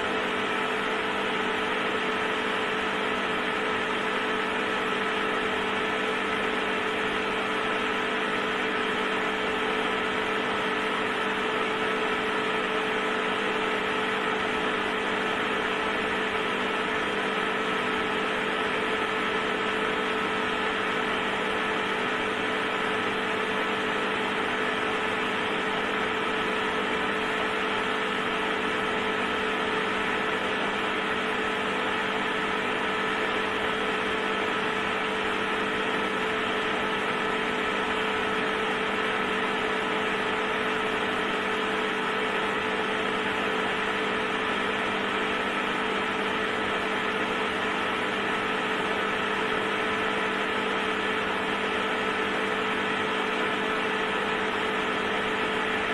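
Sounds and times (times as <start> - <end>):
electric heater humming: 0.0 - 55.9.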